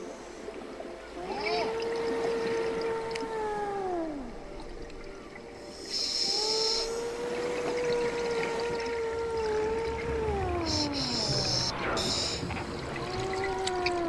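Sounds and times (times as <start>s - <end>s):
underwater moaning tone: 0.4s - 14.0s.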